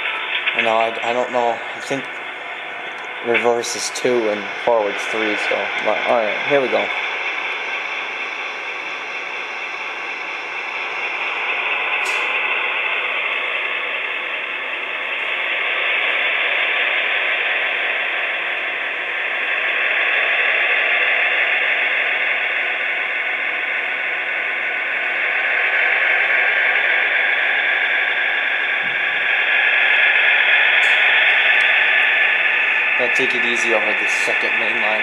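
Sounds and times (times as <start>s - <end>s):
model train running: 0.0s - 35.0s.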